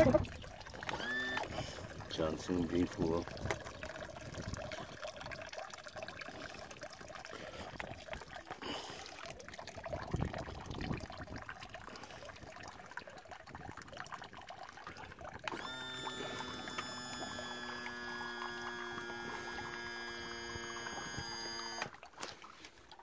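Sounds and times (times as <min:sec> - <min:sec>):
water trickling and splashing: 0:00.0 - 0:23.0.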